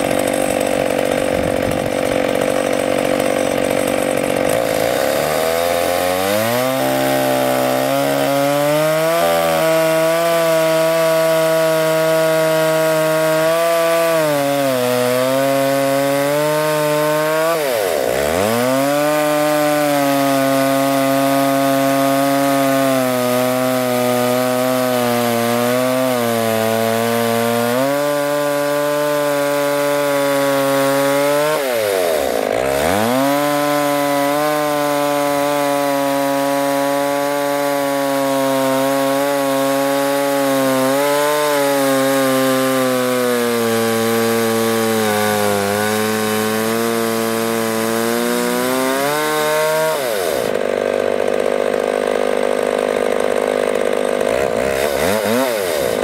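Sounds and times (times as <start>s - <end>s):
chainsaw cutting log at high revs: 0.0s - 56.0s.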